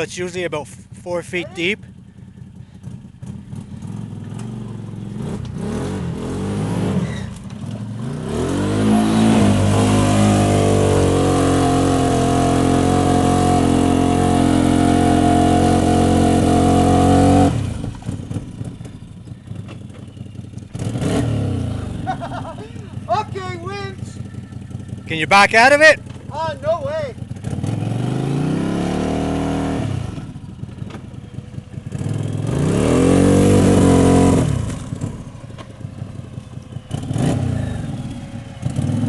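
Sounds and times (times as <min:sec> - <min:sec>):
off-road vehicle engine revving: 0:00.0 - 0:39.0.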